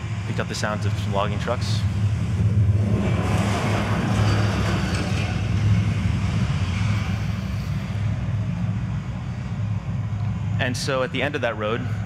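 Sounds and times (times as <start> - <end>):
rough road noise: 0.0 - 12.0
truck engine drone: 0.0 - 12.0.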